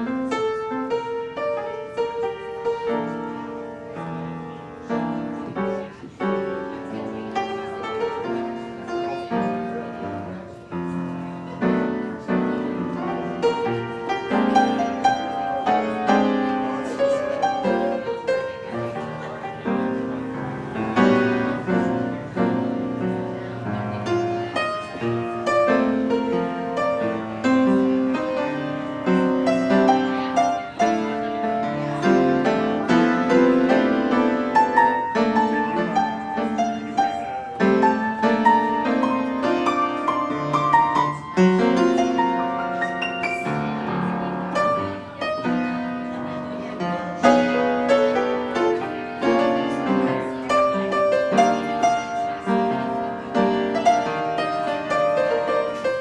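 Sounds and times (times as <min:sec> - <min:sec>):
upright piano playing: 0:00.0 - 0:56.0.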